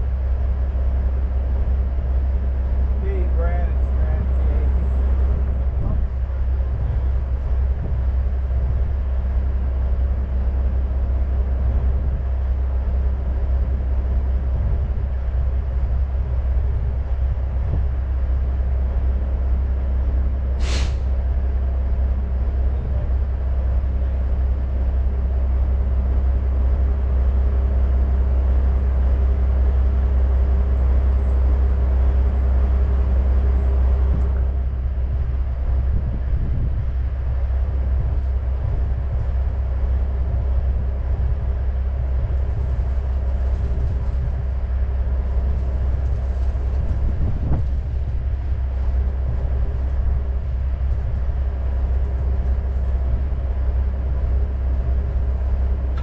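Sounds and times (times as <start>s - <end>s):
truck diesel engine idling: 0.0s - 56.0s.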